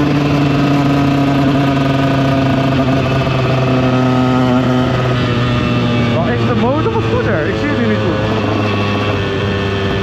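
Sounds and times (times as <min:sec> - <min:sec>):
two-stroke motorcycle engine running: 0:00.0 - 0:10.0.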